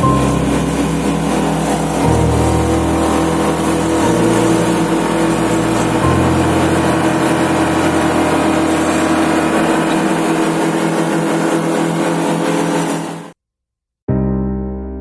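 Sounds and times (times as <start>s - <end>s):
engine running loudly: 0.0s - 13.4s
piano music: 0.0s - 13.4s, 14.1s - 15.0s.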